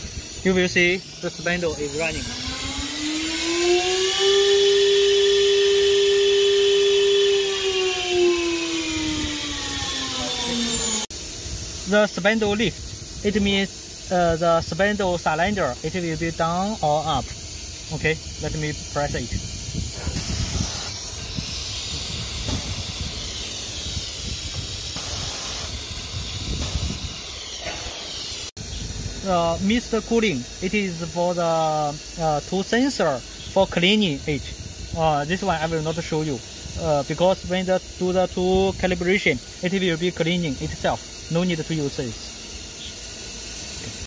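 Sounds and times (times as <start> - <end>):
router spindle high whine: 0.0 - 11.1, 12.2 - 43.2
compressed air hissing: 0.0 - 44.0.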